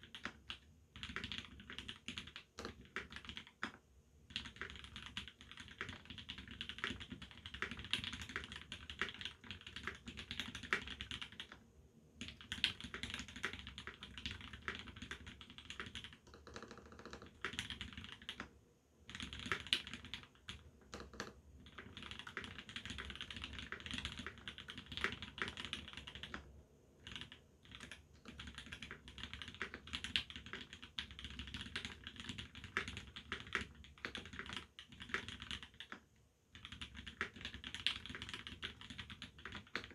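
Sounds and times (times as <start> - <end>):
mechanical keyboard typing: 0.0 - 11.6, 12.2 - 18.5, 19.1 - 39.9.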